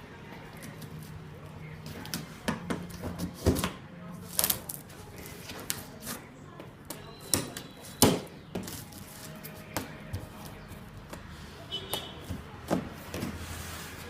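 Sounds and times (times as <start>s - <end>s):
faint voices: 0.0s - 14.0s.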